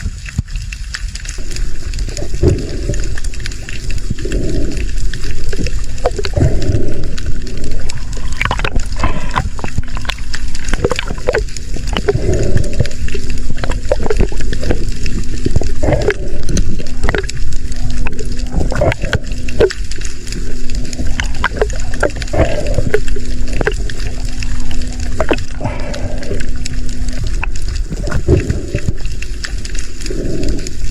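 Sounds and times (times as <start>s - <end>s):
bubbling: 0.0s - 30.9s
water gurgling and sloshing: 0.0s - 30.9s
steady low hum: 1.4s - 30.9s.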